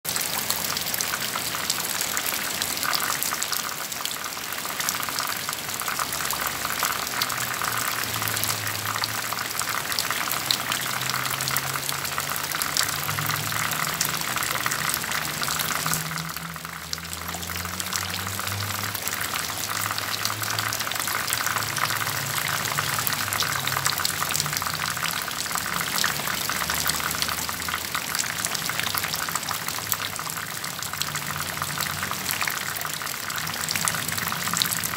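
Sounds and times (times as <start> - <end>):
water pattering on leaves: 0.1 - 34.9.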